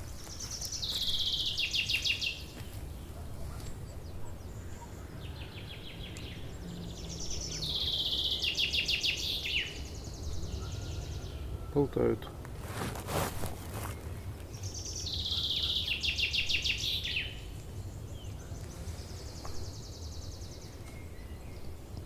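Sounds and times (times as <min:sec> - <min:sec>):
nightingale singing: 0:00.0 - 0:22.0.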